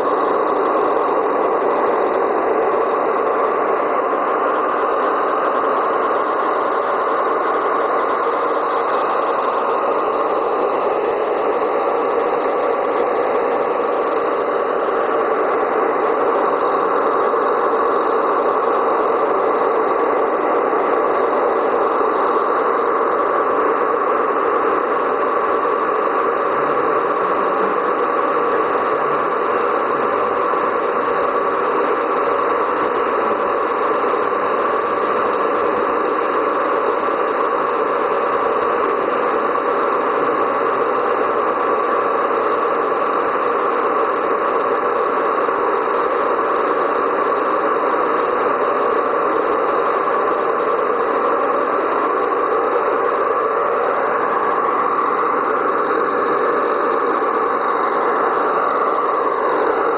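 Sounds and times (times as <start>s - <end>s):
model locomotive diesel engine sound: 0.0s - 59.9s.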